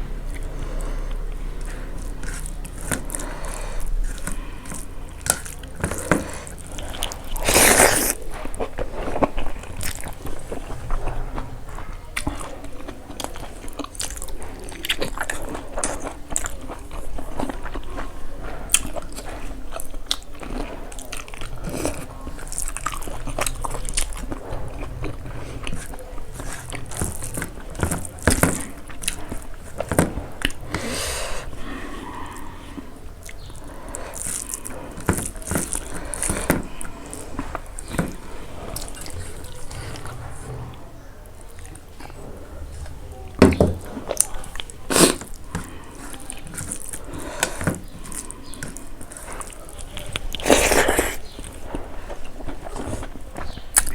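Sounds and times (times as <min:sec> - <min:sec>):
chewing and crunching: 0:00.0 - 0:53.9.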